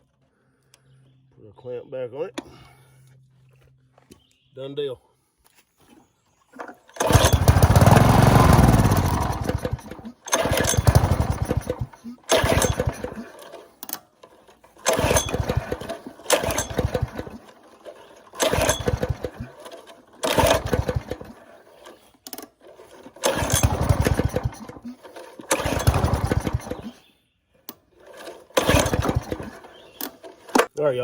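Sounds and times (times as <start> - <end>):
small engine pull-starting: 5.8 - 30.8.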